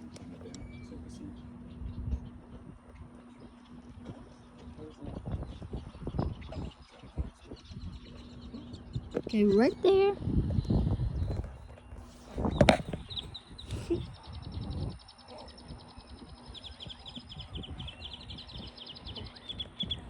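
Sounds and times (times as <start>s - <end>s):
low rumbling noise: 0.0s - 20.0s.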